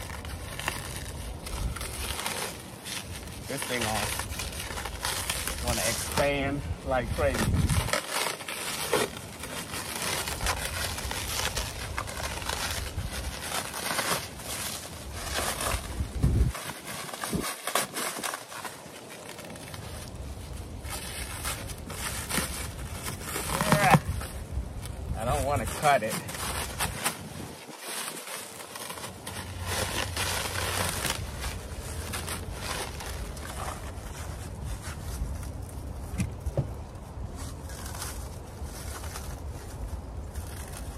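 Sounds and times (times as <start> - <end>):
plastic packaging rustling: 0.0 - 40.9
plastic wrapping crinkling: 0.0 - 40.9.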